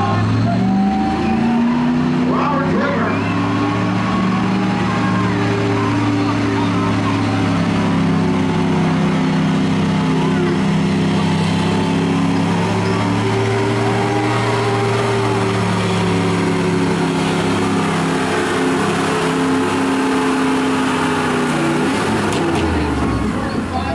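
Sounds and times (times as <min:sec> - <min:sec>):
pickup engine under full load: 0:00.0 - 0:23.9.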